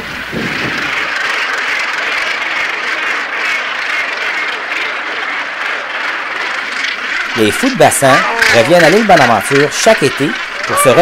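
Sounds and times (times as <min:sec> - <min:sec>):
seabird colony calling: 0:00.0 - 0:11.0.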